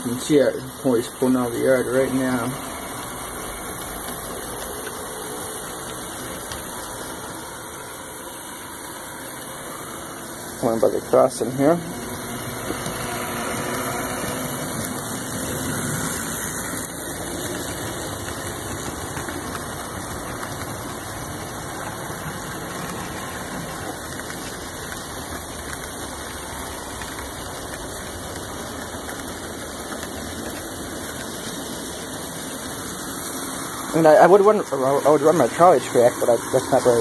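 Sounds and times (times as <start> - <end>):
model train motors whirring: 0.0 - 37.0.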